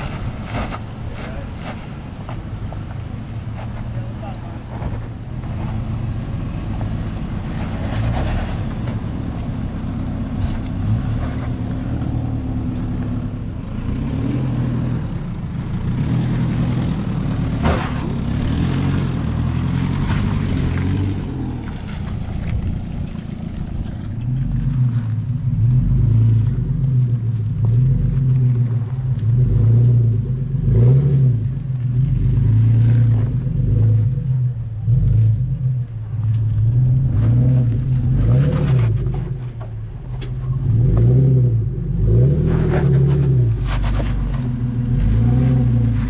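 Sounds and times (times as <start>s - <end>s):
off-road engines revving low: 0.0s - 46.0s.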